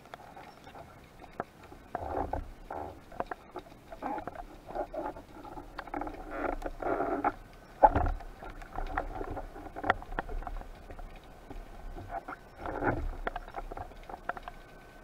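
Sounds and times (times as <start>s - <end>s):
water rushing and scraping: 0.0s - 15.0s.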